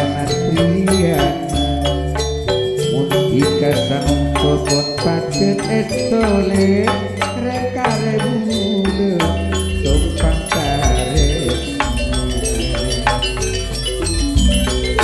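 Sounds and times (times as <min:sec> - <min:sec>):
man singing through microphone: 0:00.0 - 0:02.0, 0:02.8 - 0:13.8
drum strokes: 0:00.0 - 0:15.0
struck metal keyed instruments: 0:00.0 - 0:15.0.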